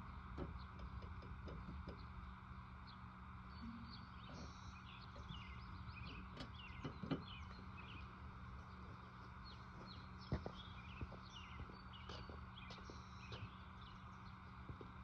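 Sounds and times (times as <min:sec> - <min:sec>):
faint steady hum: 0:00.0 - 0:15.0
small birds chirping: 0:00.4 - 0:15.0.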